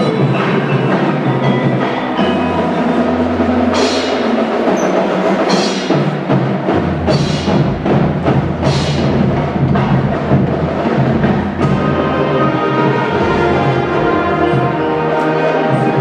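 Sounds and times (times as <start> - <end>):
drum and mallet groove: 0.0 - 16.0
marching band playing: 0.0 - 16.0.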